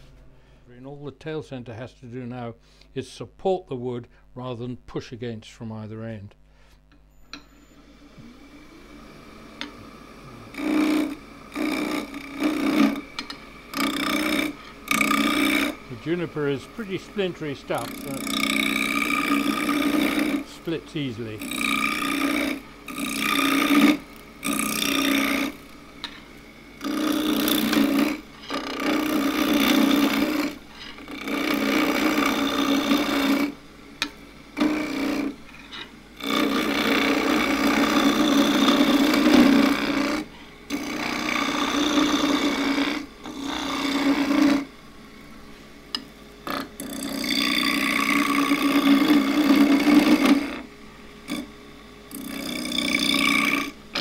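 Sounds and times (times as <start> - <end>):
lathe drone: 7.8 - 45.0, 45.9 - 54.0
chisel cutting wood on lathe: 8.0 - 44.8, 45.9 - 54.0.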